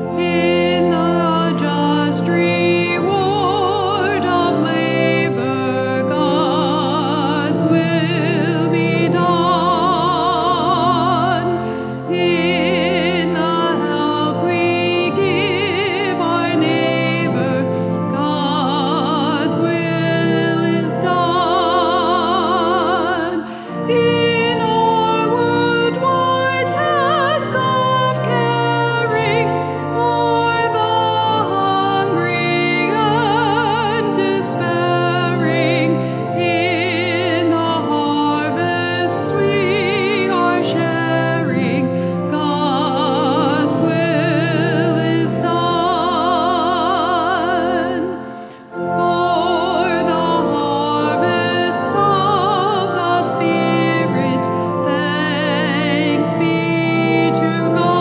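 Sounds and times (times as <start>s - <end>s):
solo singer with vibrato: 0.0s - 58.0s
sustained accompaniment chords: 0.0s - 58.0s.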